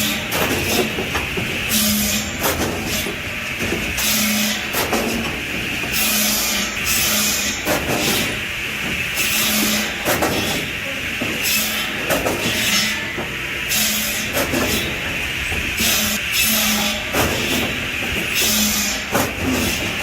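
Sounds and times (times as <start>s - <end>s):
wood-cutting machinery grinding: 0.0s - 10.8s, 11.4s - 20.0s.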